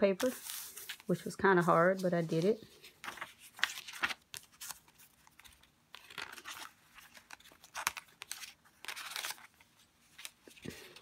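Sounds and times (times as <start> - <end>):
paper pages rustling: 0.1 - 11.0.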